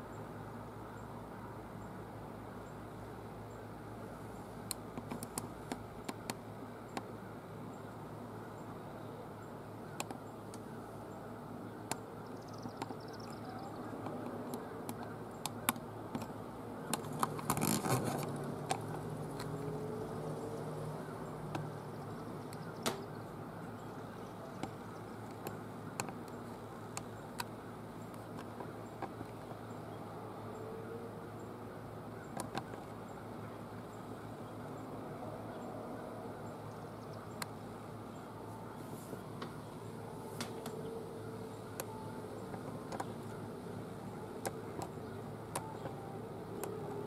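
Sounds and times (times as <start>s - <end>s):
low outdoor hum: 0.0s - 47.0s.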